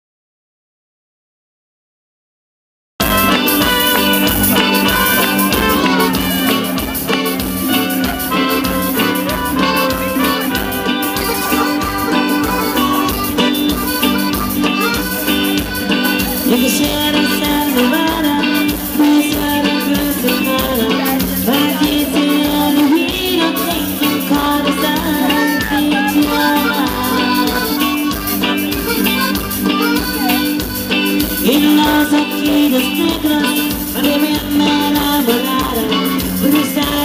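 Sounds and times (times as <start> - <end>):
music with steady drum beat: 3.0 - 37.0.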